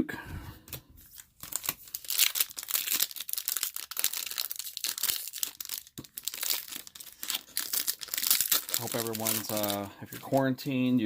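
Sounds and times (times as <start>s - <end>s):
plastic wrapper crinkling and tearing: 0.7s - 10.5s.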